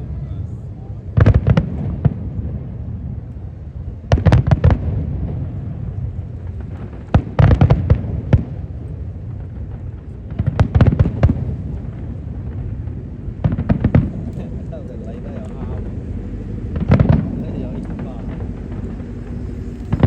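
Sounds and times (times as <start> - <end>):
fireworks bursting with sharp bangs: 0.0 - 20.0
low rumble: 0.0 - 20.0.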